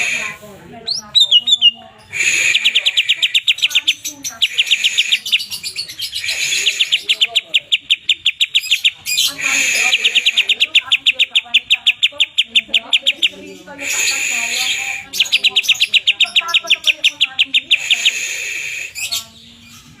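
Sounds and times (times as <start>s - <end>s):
bird singing rapid sharp notes: 0.0s - 20.0s.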